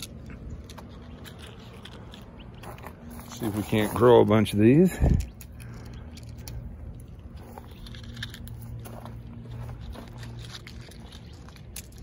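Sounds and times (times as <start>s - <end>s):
dry leaves and pods crackling: 0.0s - 12.0s
steady low hum: 0.0s - 12.0s.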